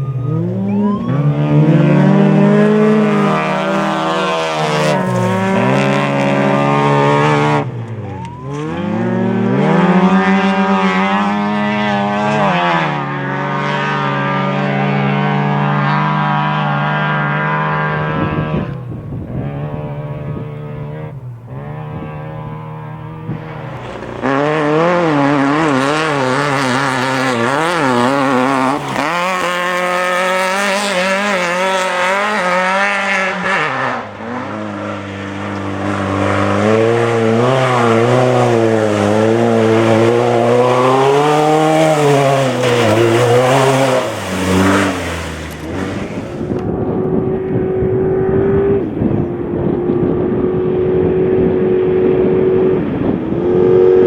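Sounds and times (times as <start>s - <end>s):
race vehicle engines revving: 0.0s - 54.0s.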